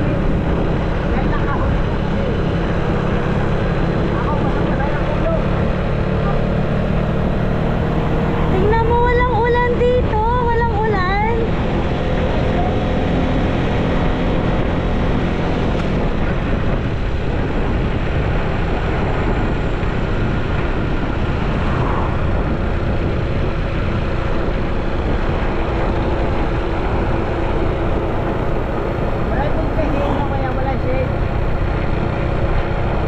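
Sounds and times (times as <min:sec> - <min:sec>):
motorcycle engine hum: 0:00.0 - 0:33.0
road noise: 0:00.0 - 0:33.0
wind buffeting microphone: 0:00.0 - 0:33.0.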